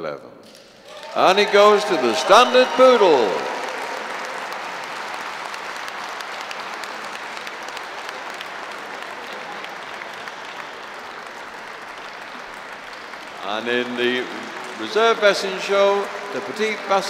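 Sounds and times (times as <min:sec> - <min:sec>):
audience applauding: 0:00.8 - 0:17.0.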